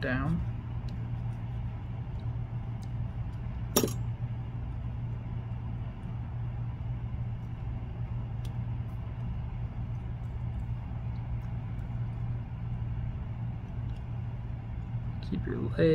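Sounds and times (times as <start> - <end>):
low hum: 0.0 - 15.9.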